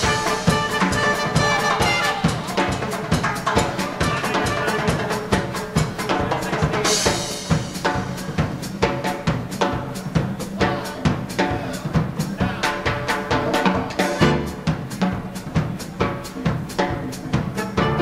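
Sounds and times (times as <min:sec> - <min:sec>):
drum kit: 0:00.0 - 0:18.0
live dance band playing: 0:00.0 - 0:18.0.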